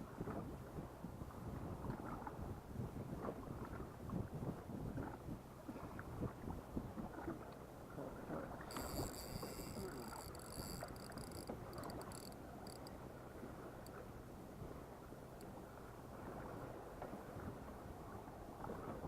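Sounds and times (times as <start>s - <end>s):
boat engine rumble: 0.0s - 19.0s
water and wind noise: 0.0s - 19.0s.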